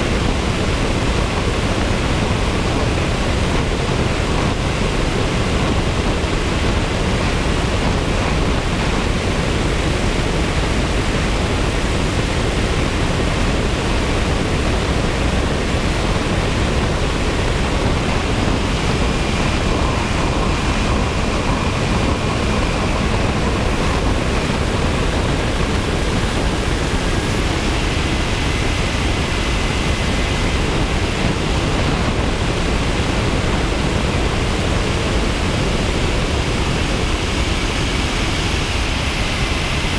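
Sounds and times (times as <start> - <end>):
high-pitched motor whine: 0.0 - 39.9
wind rushing over camera: 0.0 - 39.9.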